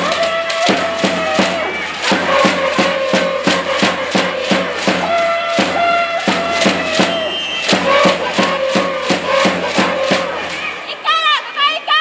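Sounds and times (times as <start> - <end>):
steady drum beat: 0.0 - 10.8
crowd chanting in unison: 0.0 - 10.9.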